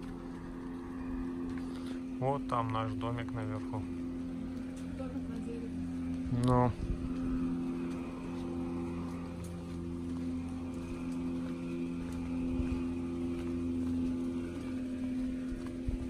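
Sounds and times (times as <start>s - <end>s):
distant engine drone: 0.0s - 16.0s.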